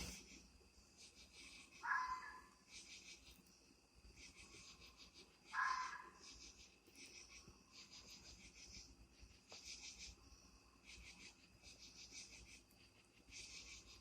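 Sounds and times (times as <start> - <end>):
faint night insects rasping: 0.0 - 14.0.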